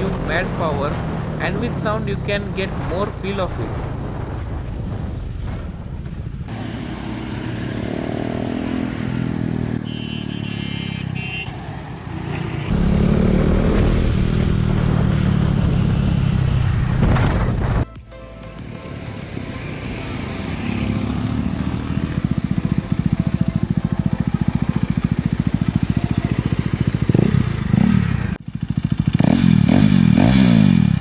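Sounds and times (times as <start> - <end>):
motorcycle engine accelerating: 3.7 - 17.9, 18.6 - 31.0.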